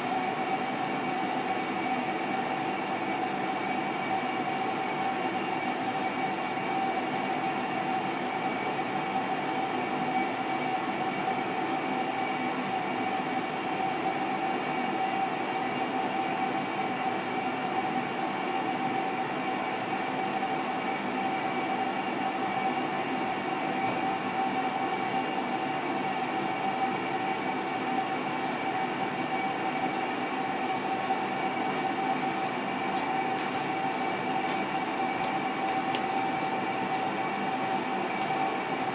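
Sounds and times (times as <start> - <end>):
constant whine: 0.0 - 38.9
furnace burner drone: 0.0 - 38.9.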